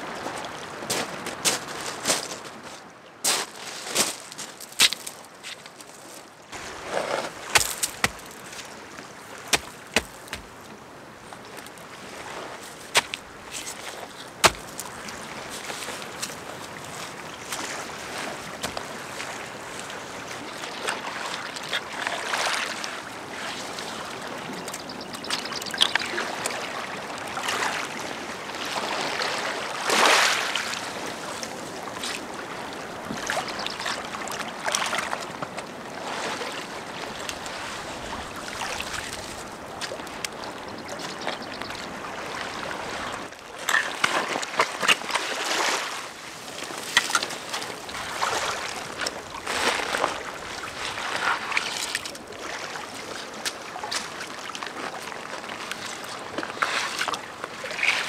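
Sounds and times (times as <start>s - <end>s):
water lapping on rocky shore: 0.0s - 58.0s.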